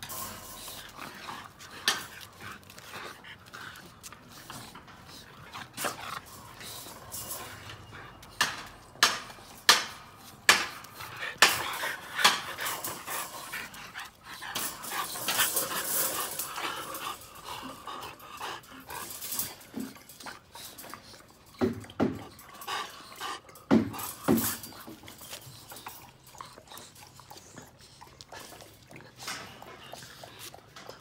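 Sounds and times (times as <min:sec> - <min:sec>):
dogs panting: 0:00.0 - 0:31.0
dogs scuffling in wire pen: 0:00.0 - 0:31.0.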